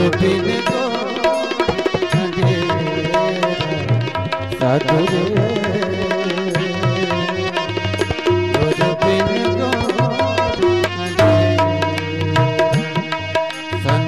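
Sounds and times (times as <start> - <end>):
held melody notes: 0.0 - 14.0
tabla drumming: 0.0 - 14.0.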